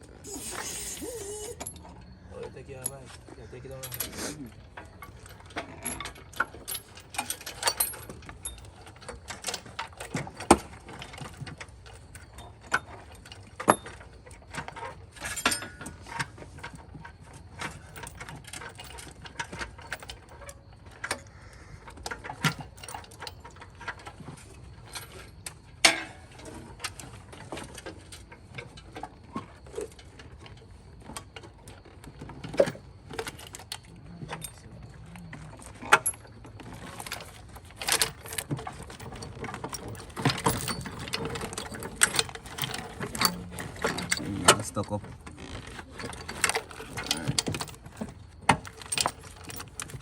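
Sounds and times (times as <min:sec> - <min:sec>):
metal tools clanking: 0:00.1 - 0:21.3, 0:22.2 - 0:27.8, 0:35.6 - 0:50.0.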